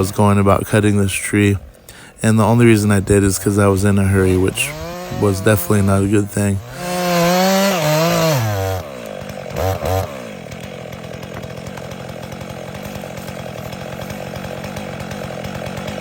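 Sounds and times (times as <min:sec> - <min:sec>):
chainsaw running steadily: 0:00.0 - 0:16.0.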